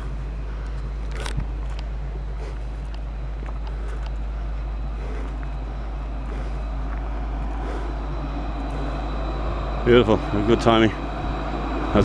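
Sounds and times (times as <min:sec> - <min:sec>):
tram rumbling past: 0:00.0 - 0:12.0.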